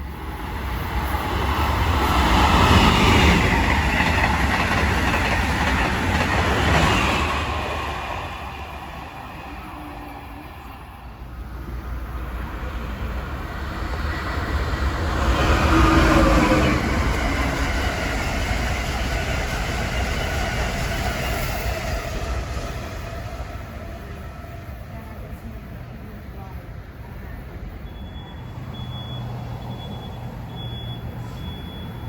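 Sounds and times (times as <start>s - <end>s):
passenger train passing at speed: 0.0s - 32.0s.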